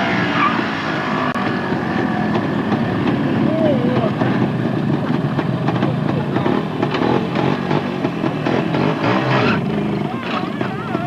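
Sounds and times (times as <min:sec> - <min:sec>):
motorcycle engine running: 0:01.3 - 0:11.0
faint voices: 0:01.4 - 0:11.0.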